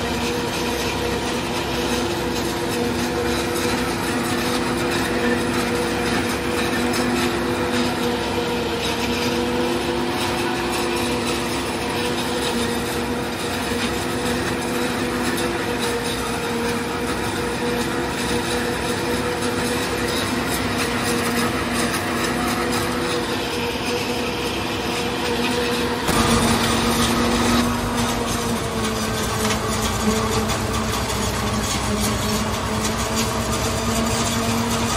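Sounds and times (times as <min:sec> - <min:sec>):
forage harvester chopping corn: 0:00.0 - 0:34.9
tractor engine under load: 0:00.0 - 0:34.9.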